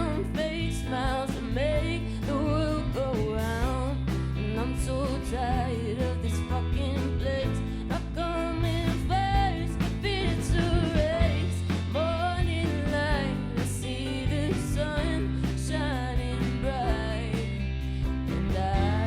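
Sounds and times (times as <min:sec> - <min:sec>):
rock band playing: 0:00.0 - 0:19.0
sliding melodic lead line: 0:00.0 - 0:19.0.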